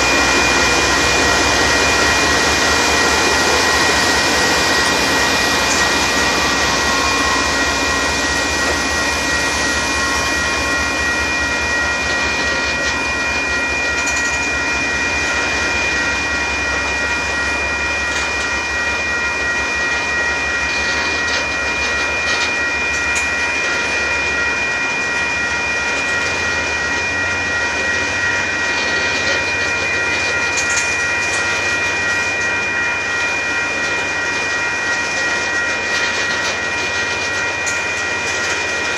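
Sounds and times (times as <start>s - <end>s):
high-pitched ringing tone: 0.0s - 38.9s
train wheels on rails: 0.0s - 38.9s.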